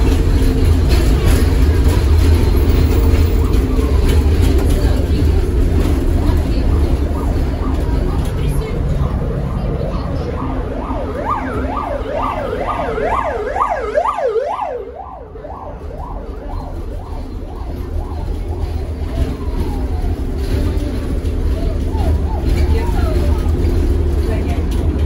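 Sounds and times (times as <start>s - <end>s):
siren wailing: 0.0s - 24.2s
tram rumbling: 0.0s - 25.0s.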